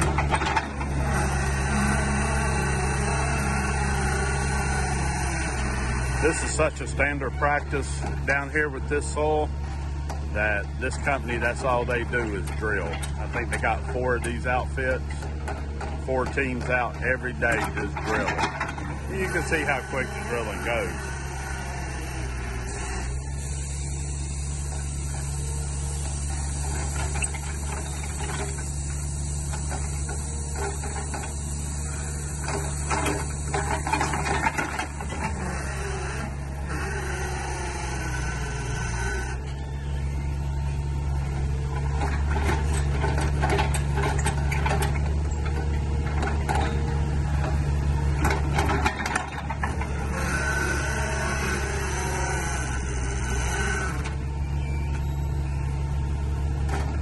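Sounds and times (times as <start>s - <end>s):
diesel engine running under load: 0.0s - 57.0s
hydraulic auger drilling: 0.0s - 57.0s.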